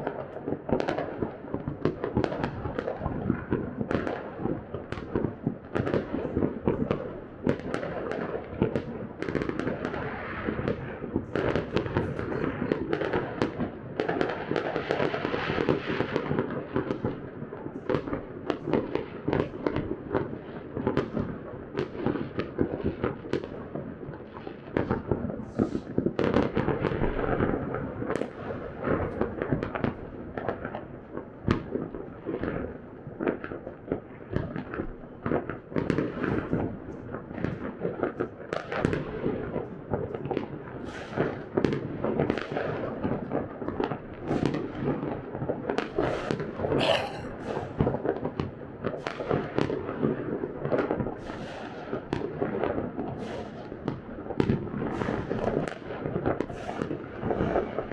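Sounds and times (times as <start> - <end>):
fireworks banging and crackling: 0.0 - 57.9.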